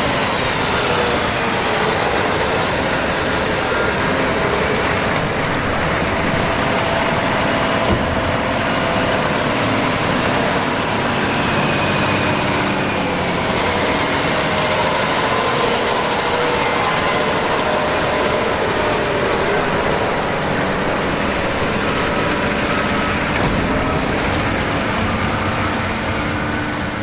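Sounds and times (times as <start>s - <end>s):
combine harvester drone: 0.0s - 27.0s.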